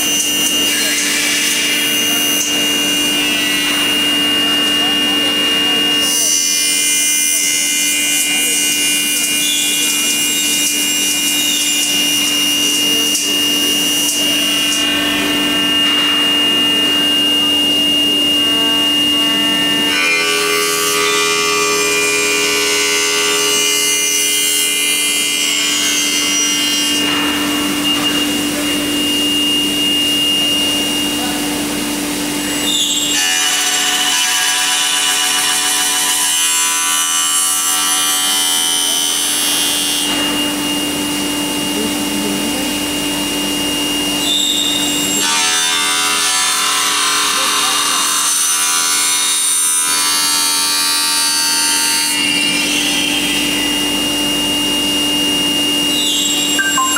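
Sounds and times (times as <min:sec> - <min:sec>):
machine spindle whine: 0:00.0 - 0:48.4
cutter milling aluminium: 0:00.0 - 0:56.9.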